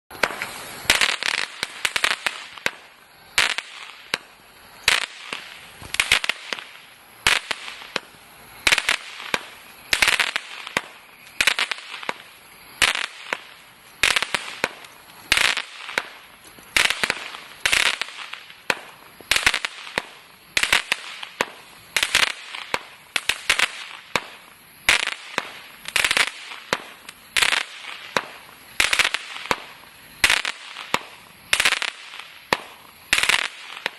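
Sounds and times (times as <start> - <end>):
firework crackling bursts: 0.1 - 33.9.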